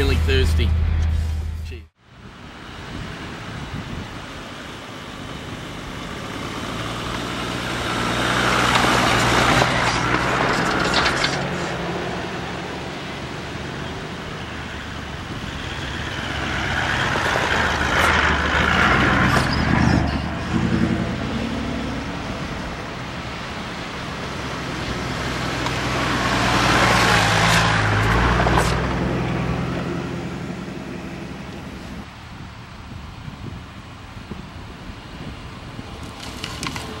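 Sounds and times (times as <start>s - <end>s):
vehicles driving past on sand: 0.0s - 37.0s.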